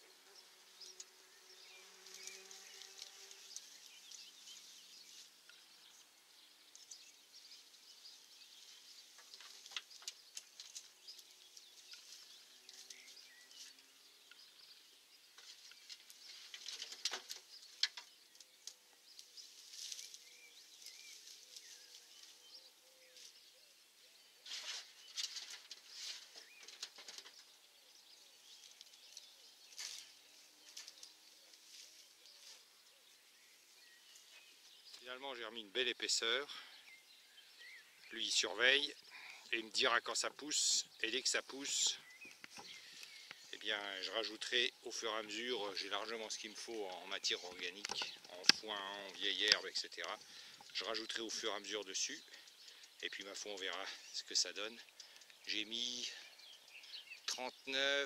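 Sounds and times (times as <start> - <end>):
cut grass rustling and crackling: 0.0 - 36.5, 37.2 - 58.0.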